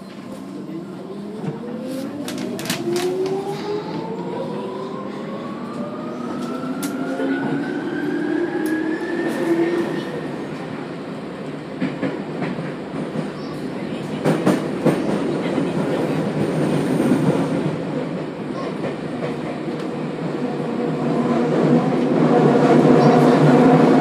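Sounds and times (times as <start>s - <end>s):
train tunnel rumble: 0.0s - 24.0s.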